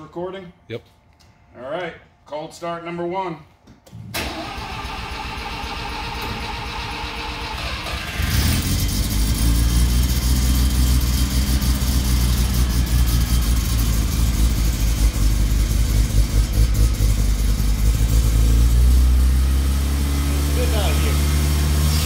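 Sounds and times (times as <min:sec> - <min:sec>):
rotary engine starting and running: 0:04.1 - 0:22.0.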